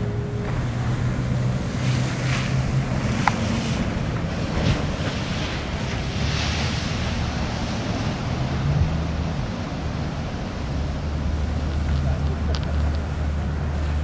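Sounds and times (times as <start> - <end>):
boat diesel engine drone: 0.0 - 14.0
crashing surf: 0.4 - 14.0.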